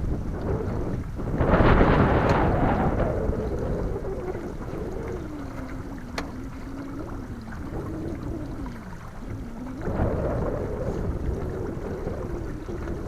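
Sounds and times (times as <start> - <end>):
low motor hum: 0.0 - 13.0
wind buffeting microphone: 0.0 - 13.0.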